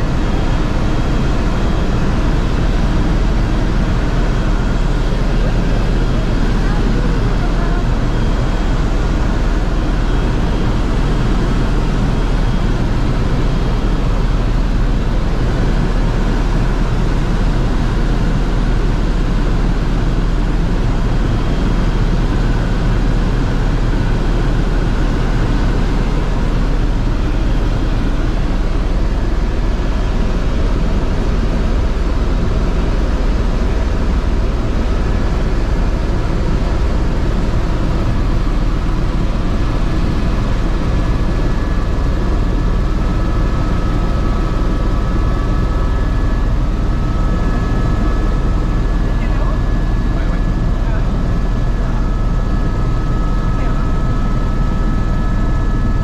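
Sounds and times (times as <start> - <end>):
faint steady whines: 0.0 - 56.0
helicopter rotor and turbine drone: 0.0 - 56.0.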